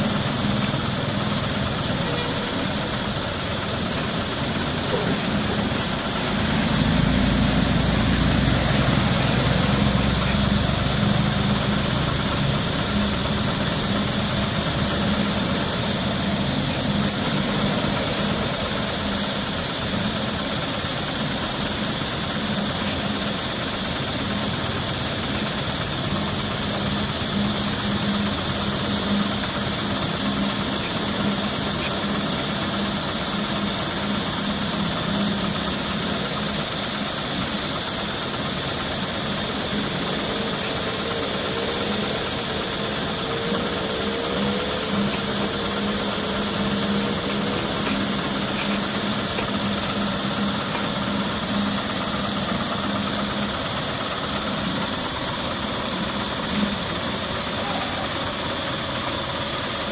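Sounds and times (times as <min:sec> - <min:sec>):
engine idling: 0:00.0 - 0:59.9
high-pitched hum: 0:00.0 - 0:59.9.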